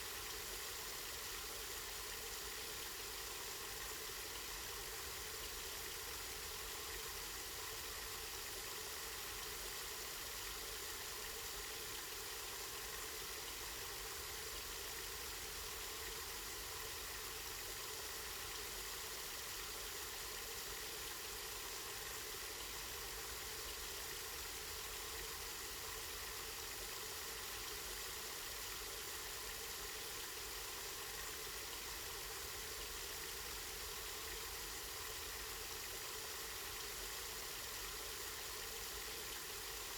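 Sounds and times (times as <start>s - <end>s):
water flowing from a spring: 0.0s - 39.9s.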